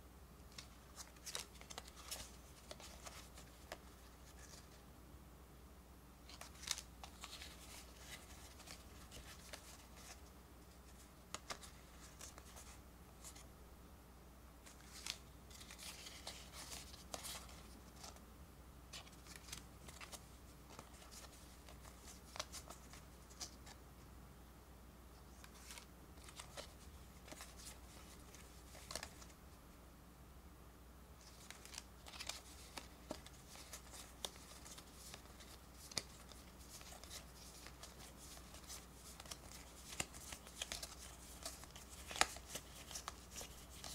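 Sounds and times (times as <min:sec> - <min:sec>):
low steady hum: 0:00.0 - 0:43.9
cards sliding and rubbing: 0:00.5 - 0:04.8, 0:06.3 - 0:13.5, 0:14.6 - 0:18.2, 0:18.9 - 0:23.8, 0:25.3 - 0:29.3, 0:31.2 - 0:43.9.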